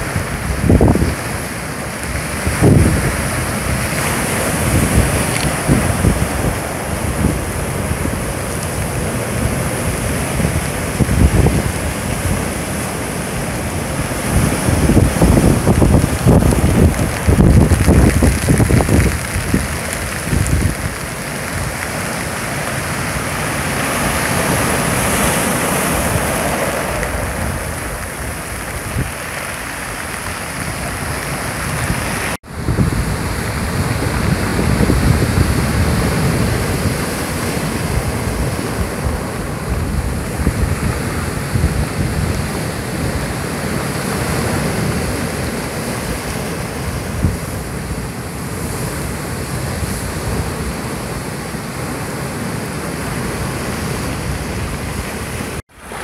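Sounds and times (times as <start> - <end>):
wind buffeting microphone: 0.0 - 51.8
surf breaking on rocks and pebbles: 0.0 - 56.0.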